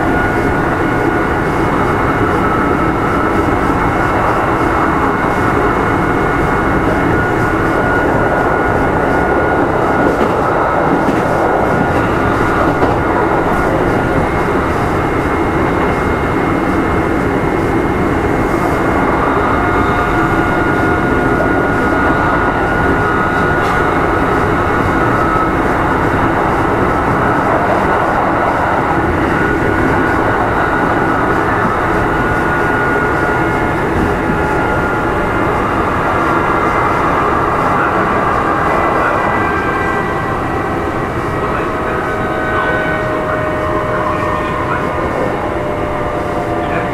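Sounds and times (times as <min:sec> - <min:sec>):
high steady whine: 0:00.0 - 0:46.9
train wheels rumbling on rail: 0:00.0 - 0:46.9.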